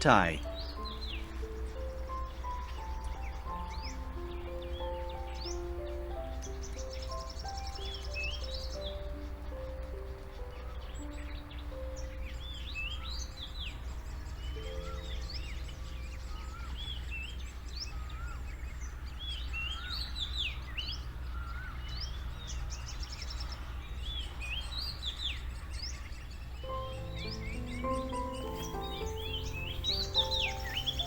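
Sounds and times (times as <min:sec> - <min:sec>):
birds chirping: 0:00.0 - 0:31.0
soft sustained music notes: 0:00.0 - 0:31.0.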